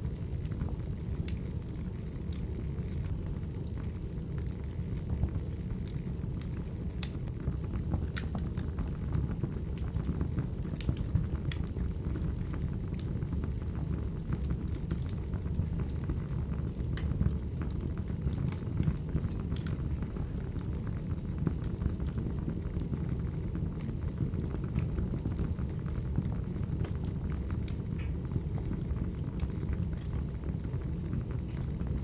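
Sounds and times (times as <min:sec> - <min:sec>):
firewood crackling and popping: 0:00.0 - 0:32.0
flames rumbling: 0:00.0 - 0:32.0.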